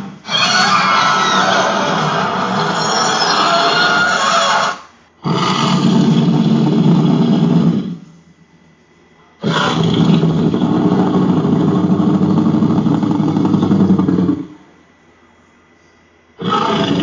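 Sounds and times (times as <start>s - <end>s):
deep growling monster roar: 0.0s - 8.0s, 9.4s - 14.6s, 16.4s - 17.0s.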